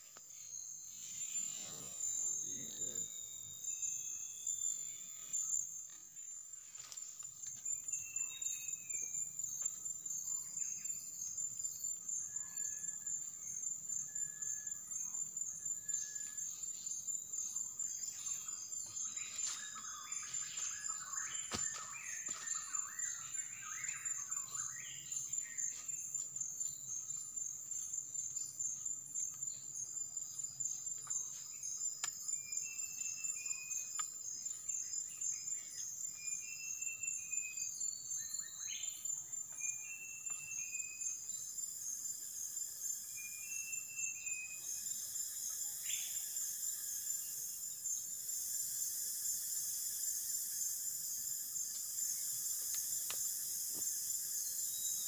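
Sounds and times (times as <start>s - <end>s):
insect trill: 0.0s - 55.0s.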